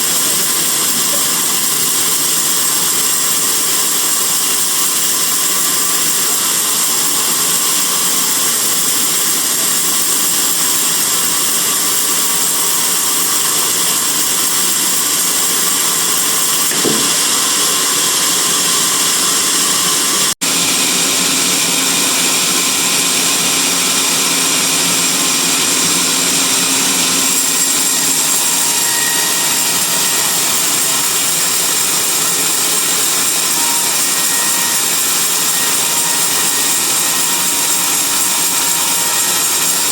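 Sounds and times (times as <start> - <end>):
band saw running with high hiss: 0.0 - 39.9.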